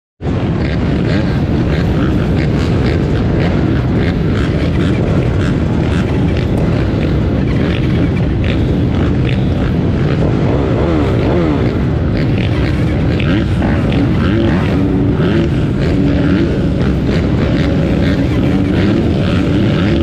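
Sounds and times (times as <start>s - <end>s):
dirt bike engines idling: 0.2s - 20.0s.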